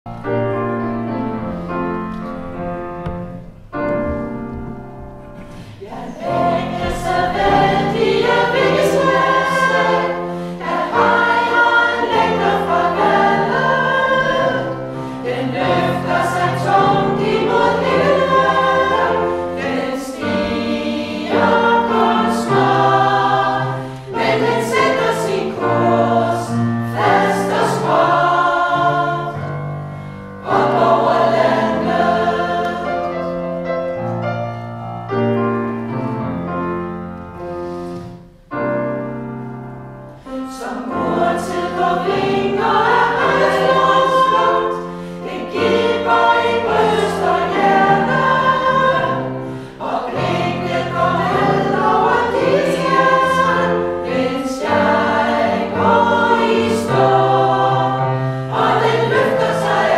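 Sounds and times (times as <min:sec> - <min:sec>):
piano accompaniment: 0:00.0 - 0:59.9
women's choir singing: 0:05.4 - 0:34.1, 0:40.2 - 0:59.9.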